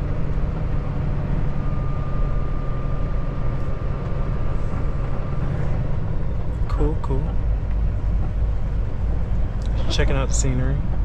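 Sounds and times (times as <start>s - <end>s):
road rumble: 0.0s - 11.0s
truck engine drone: 0.0s - 11.0s.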